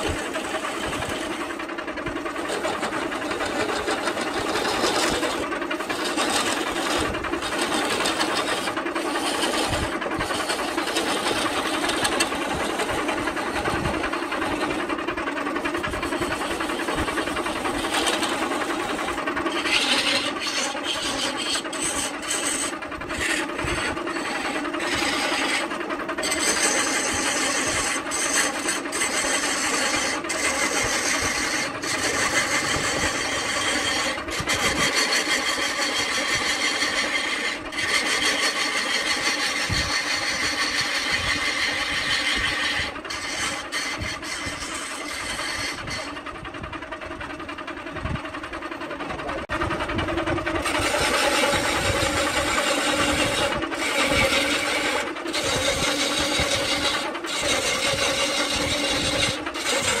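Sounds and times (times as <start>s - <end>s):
gouge scraping spinning log: 0.0s - 60.0s
lathe humming: 0.0s - 60.0s.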